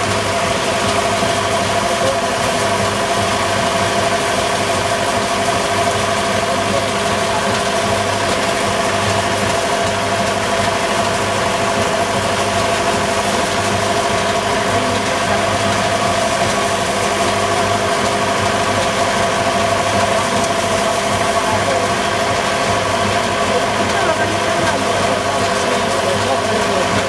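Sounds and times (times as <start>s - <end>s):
threshing machine whirring: 0.0s - 27.0s
tractor engine running: 0.0s - 27.0s.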